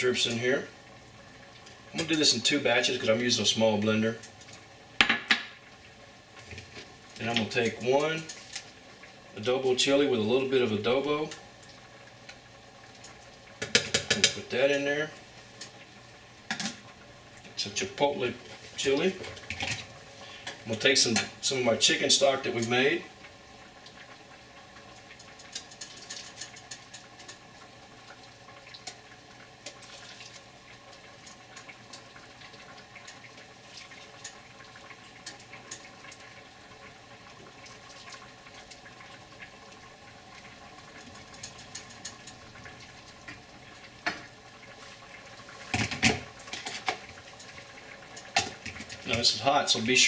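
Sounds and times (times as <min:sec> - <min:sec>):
liquid pouring and splashing: 0:05.5 - 0:50.0.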